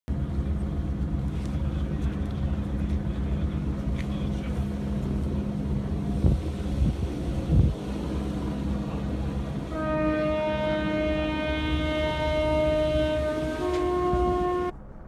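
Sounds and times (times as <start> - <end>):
locomotive rumbling: 0.1 - 15.0.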